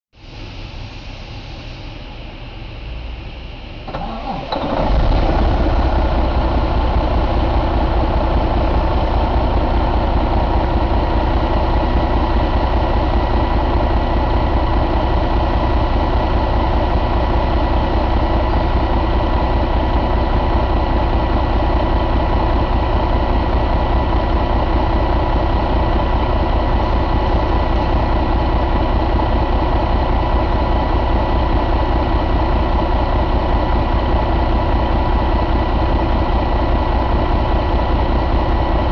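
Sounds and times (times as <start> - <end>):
diesel engine starting and idling: 0.2 - 38.9.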